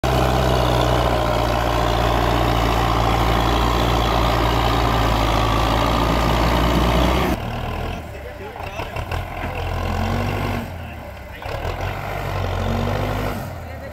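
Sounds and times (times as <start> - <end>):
tractor diesel engine under load: 0.0 - 13.9.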